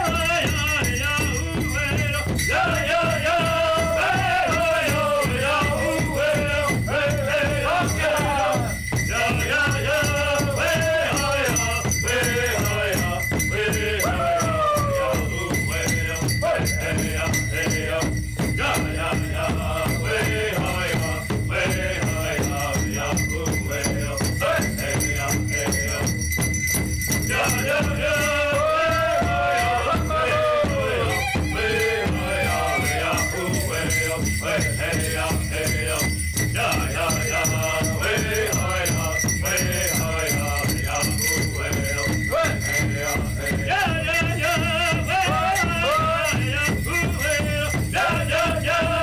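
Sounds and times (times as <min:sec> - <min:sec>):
jingling bells: 0:00.0 - 0:49.0
steady beat on large drum: 0:00.0 - 0:49.0
voices singing: 0:00.0 - 0:49.0.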